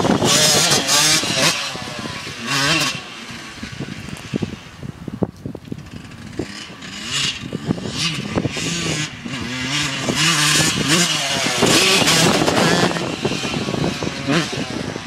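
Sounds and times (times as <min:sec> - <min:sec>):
dirt bike engine revving: 0:00.0 - 0:05.0, 0:05.7 - 0:15.0.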